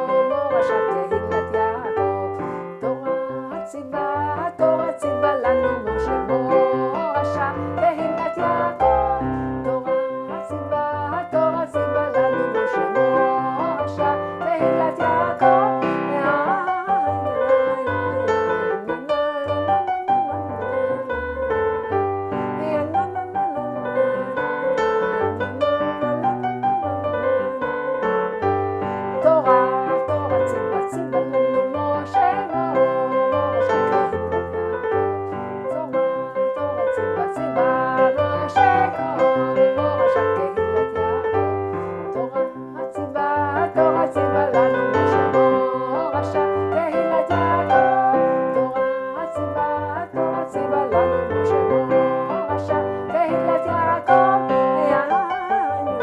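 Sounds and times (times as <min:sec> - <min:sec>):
upbeat keyboard melody: 0:00.0 - 0:56.0.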